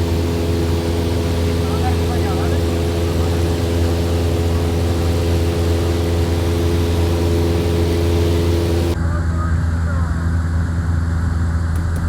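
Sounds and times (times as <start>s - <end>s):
propeller aircraft engine running: 0.0s - 12.0s.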